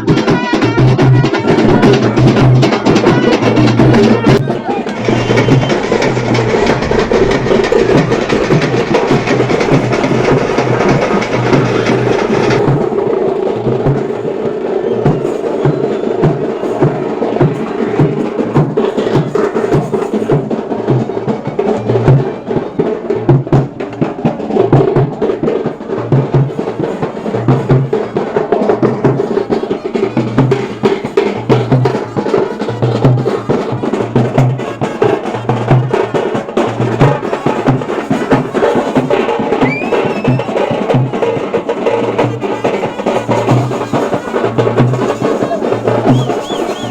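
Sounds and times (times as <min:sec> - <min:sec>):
loud drumming: 0:00.0 - 0:46.9.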